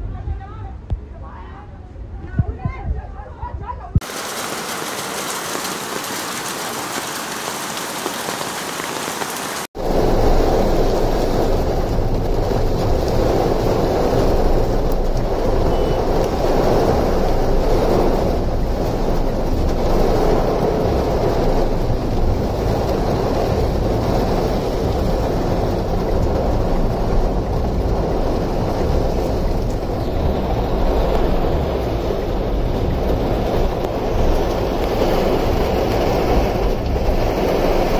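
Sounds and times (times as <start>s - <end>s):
heavy rain pouring on flooded street: 4.0s - 37.9s.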